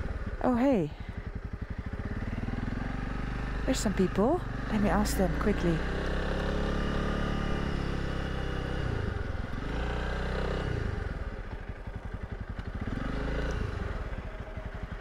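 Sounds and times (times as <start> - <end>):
motorcycle engine slowing down: 0.0 - 15.0.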